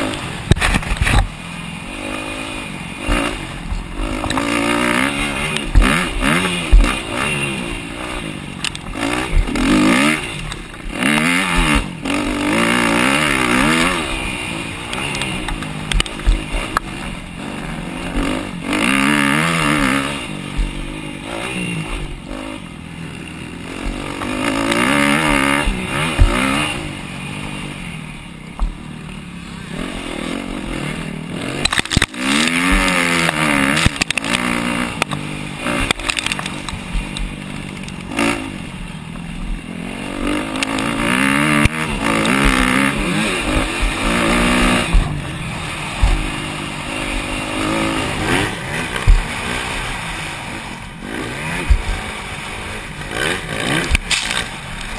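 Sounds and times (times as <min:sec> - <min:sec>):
motocross bike engines revving: 0:00.0 - 0:54.9.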